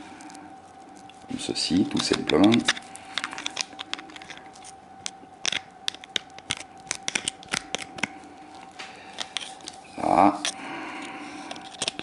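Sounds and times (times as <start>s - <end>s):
faint steady hum: 0.0s - 12.0s
mussel shell clicks and crackles: 0.2s - 12.0s.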